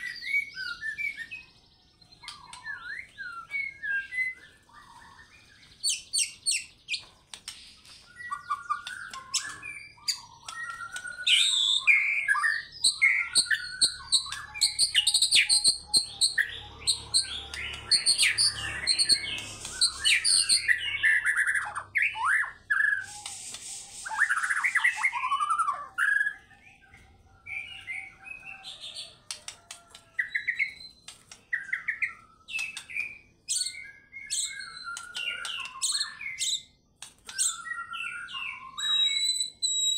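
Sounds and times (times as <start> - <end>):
bird singing whistled phrases and trills: 0.0 - 29.2, 29.8 - 39.9.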